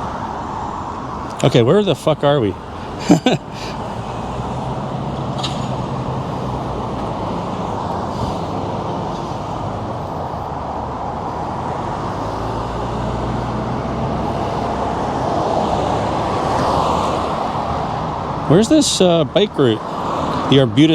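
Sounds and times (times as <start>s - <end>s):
low engine hum: 0.0s - 20.8s
rush of traffic: 0.0s - 20.9s.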